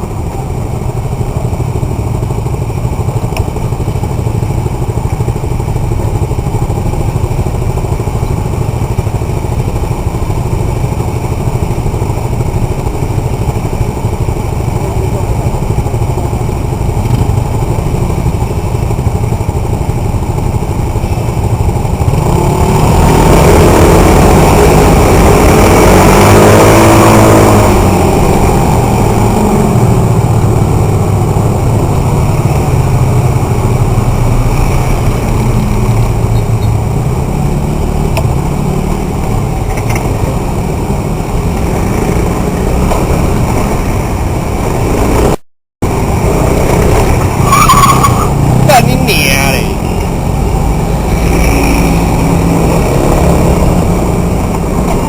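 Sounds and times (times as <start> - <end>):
motorcycle engine revving: 1.0 - 55.0.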